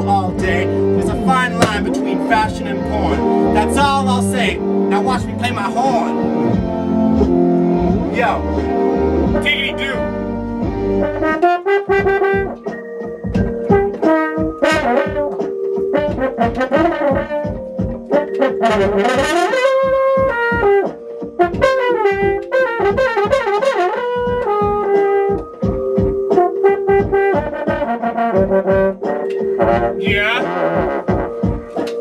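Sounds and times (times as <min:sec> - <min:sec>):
backing track with steady beat: 0:00.0 - 0:32.0.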